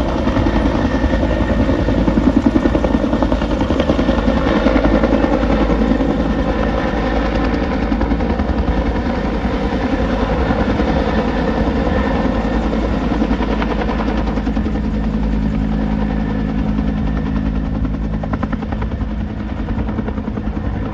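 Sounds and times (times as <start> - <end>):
helicopter rotor chopping and turbine: 0.0 - 20.9.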